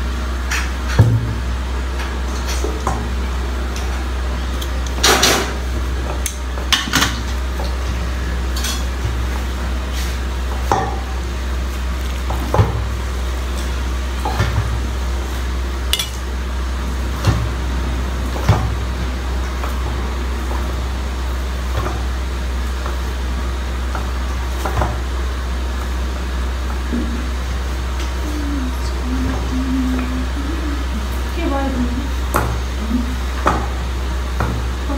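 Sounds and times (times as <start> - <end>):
low hum: 0.0 - 34.9.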